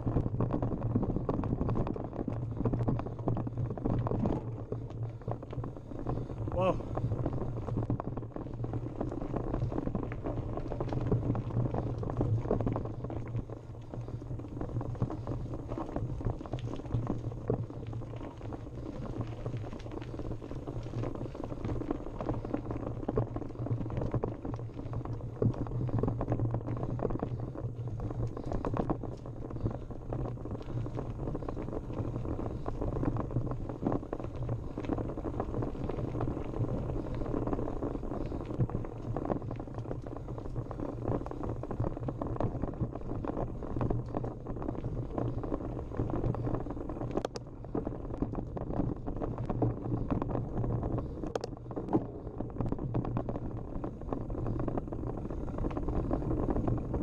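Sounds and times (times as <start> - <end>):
bike jolting over bumps: 0.0 - 57.0
bike tyres rattling on dirt trail: 0.0 - 57.0.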